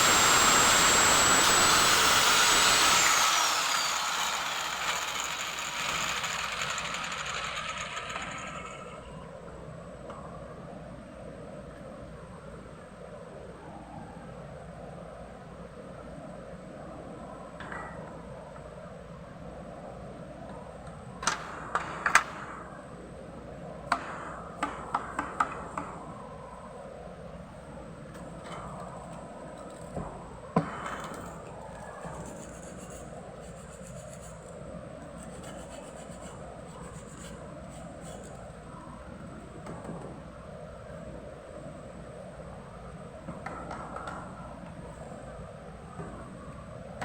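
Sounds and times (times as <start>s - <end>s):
low background hum: 0.0s - 47.0s.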